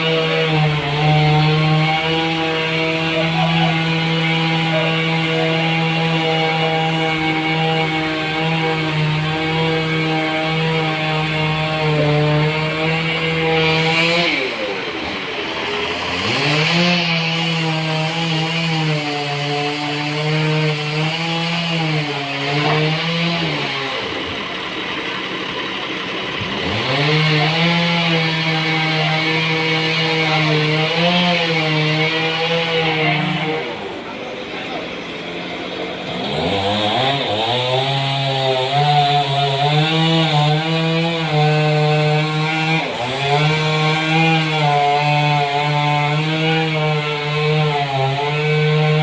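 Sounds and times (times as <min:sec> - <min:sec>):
sawmill saw machine humming: 0:00.0 - 0:49.0.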